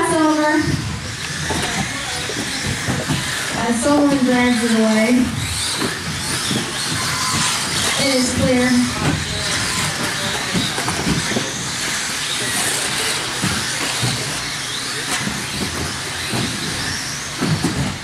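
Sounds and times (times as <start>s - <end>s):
electric motor whines: 0.0s - 18.0s.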